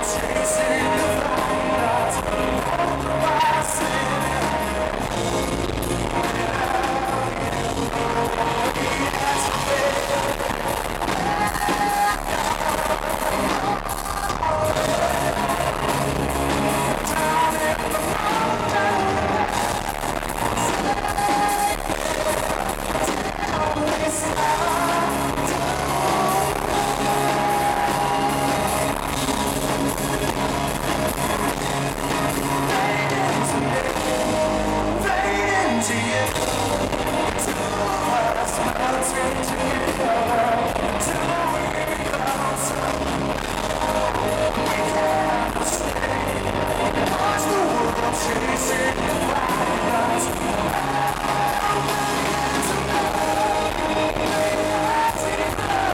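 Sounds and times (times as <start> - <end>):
drums: 0.0 - 55.9
electric guitar: 0.0 - 55.9
man singing lead vocal: 0.0 - 55.9.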